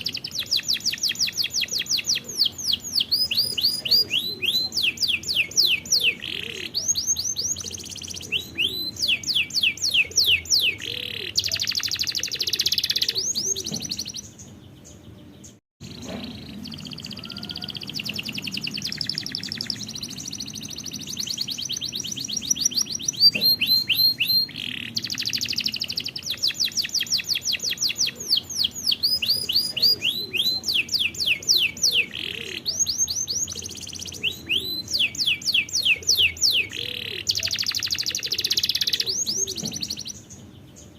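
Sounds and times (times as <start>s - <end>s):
canary song trills: 0.0s - 40.9s.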